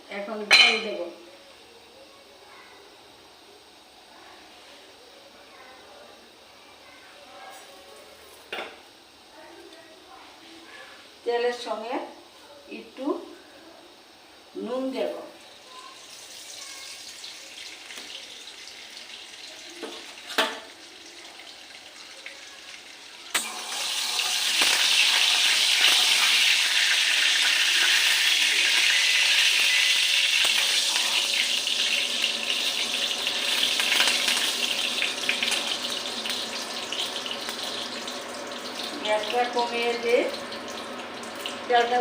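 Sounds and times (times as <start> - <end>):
oil sizzling: 6.3 - 42.0.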